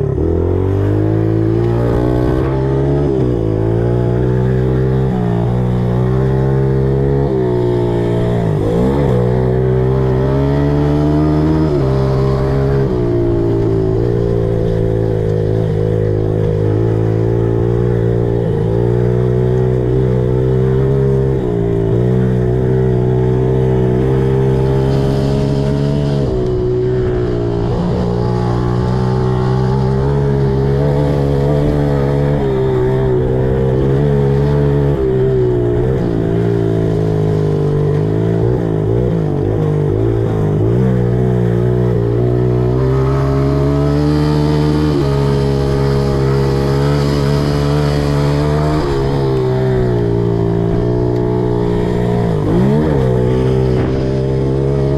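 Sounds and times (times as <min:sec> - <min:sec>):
pit bike engine running: 0:00.0 - 0:54.9.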